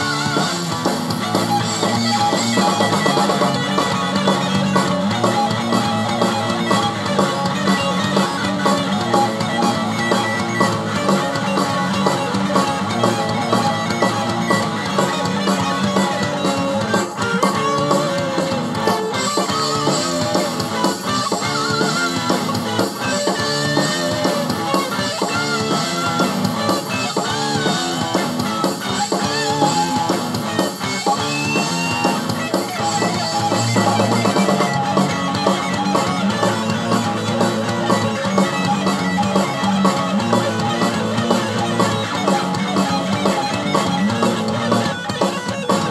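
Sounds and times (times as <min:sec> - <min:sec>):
rock music with guitar and drums: 0:00.0 - 0:45.9.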